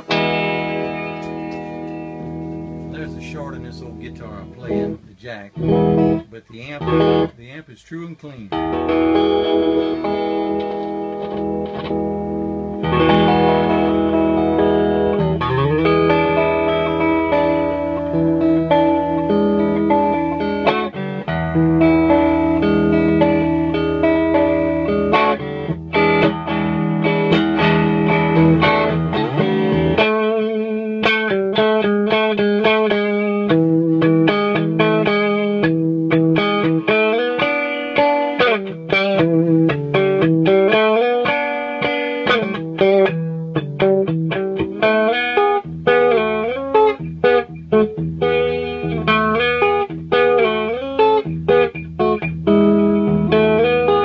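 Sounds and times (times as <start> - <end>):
clean electric guitar: 0.0 - 7.6, 8.4 - 54.0.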